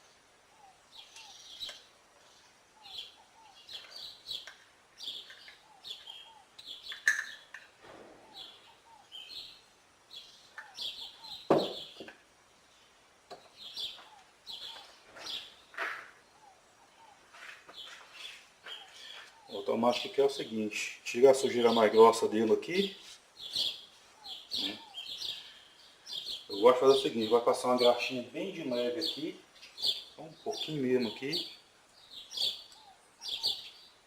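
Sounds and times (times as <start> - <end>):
birds chirping and tweeting: 0.0 - 34.0.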